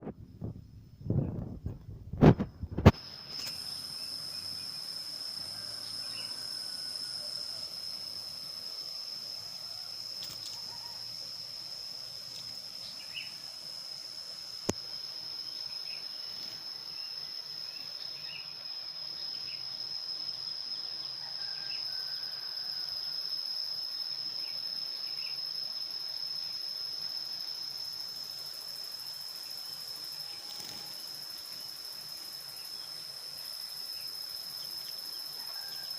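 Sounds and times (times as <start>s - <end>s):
high-pitched insect buzz: 2.2s - 35.9s.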